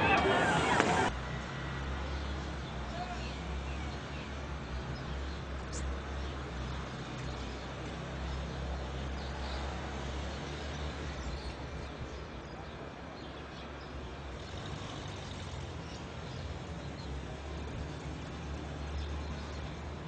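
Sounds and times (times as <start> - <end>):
distant traffic rumble: 0.0 - 20.0.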